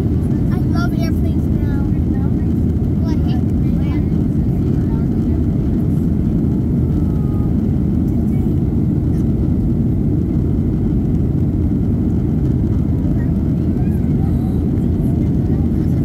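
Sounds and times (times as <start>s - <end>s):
airliner cabin jet roar: 0.0s - 16.0s.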